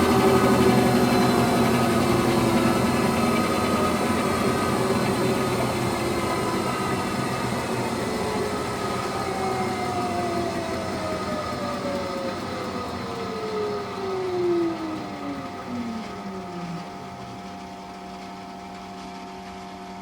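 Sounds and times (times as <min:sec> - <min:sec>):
washing machine motor whine: 0:00.0 - 0:20.0.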